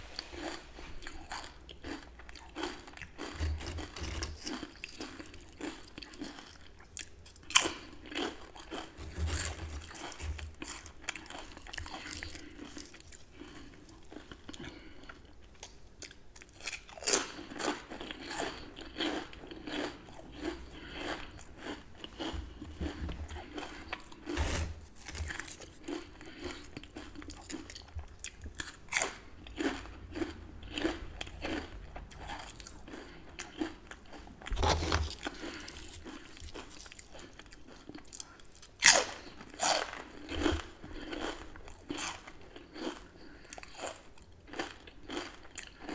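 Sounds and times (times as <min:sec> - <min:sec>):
chewing crunchy chips: 0:00.1 - 0:45.9.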